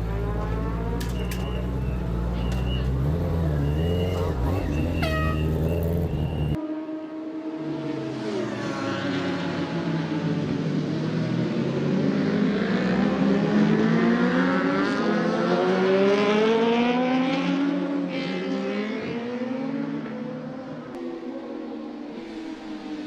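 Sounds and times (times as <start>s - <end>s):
racing motorcycle engines accelerating: 0.0s - 23.0s.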